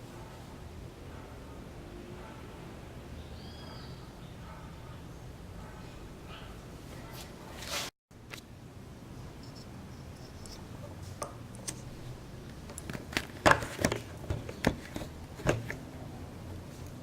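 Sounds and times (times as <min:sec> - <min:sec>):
low steady background noise: 0:00.0 - 0:17.0.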